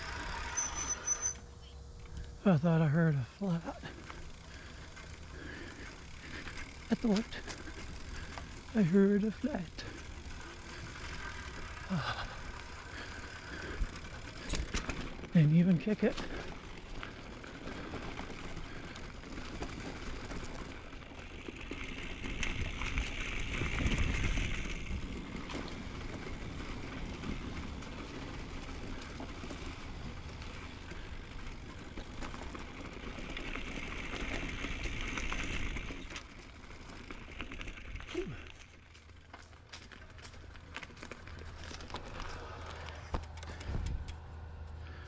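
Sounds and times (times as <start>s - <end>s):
bike tyres rolling on trail: 0.0s - 45.0s.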